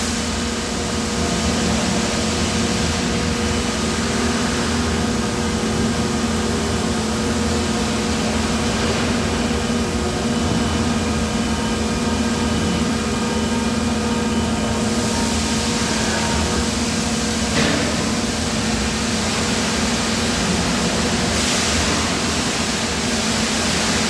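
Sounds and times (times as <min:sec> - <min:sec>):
industrial machinery humming: 0:00.0 - 0:24.0.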